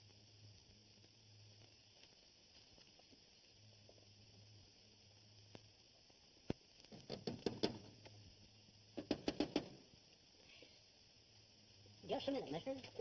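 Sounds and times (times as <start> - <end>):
old film soundtrack hiss: 0.0 - 13.0.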